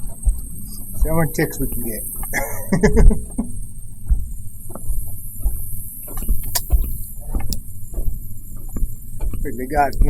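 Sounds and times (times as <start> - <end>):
footsteps on a trail: 0.0 - 10.0.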